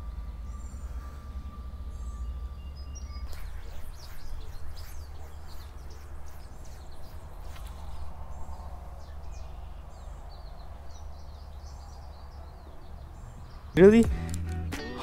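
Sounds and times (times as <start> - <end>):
steady low rumble: 0.0 - 14.4
songbirds chirping: 0.0 - 15.0.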